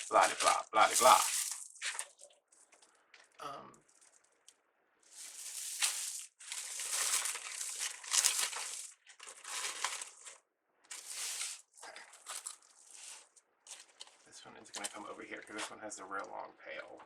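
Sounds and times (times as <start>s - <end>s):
ribbon crinkling: 0.0s - 15.0s.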